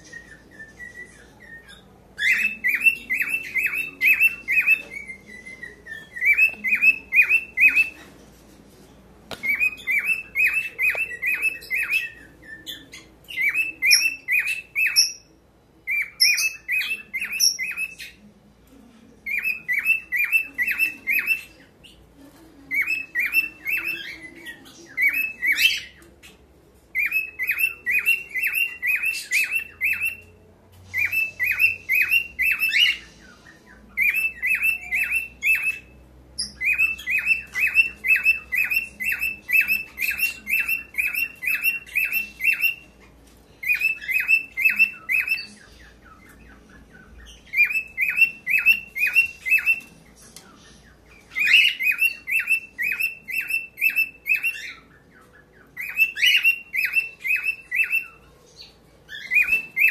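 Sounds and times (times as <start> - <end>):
cockatiel chirping: 0.0 - 8.0, 9.4 - 15.3, 15.9 - 18.2, 19.3 - 22.0, 22.7 - 26.1, 27.0 - 30.3, 31.0 - 33.1, 33.9 - 50.0, 51.1 - 59.9.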